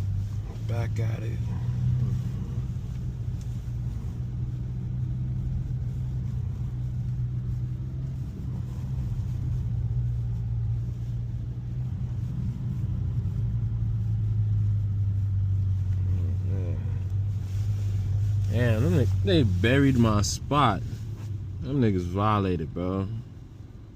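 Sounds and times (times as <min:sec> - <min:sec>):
car engine humming in cabin: 0:00.0 - 0:23.9.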